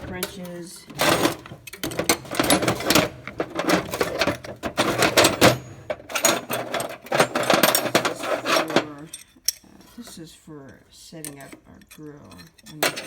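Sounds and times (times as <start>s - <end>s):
metal tools clattering: 0.0s - 13.0s.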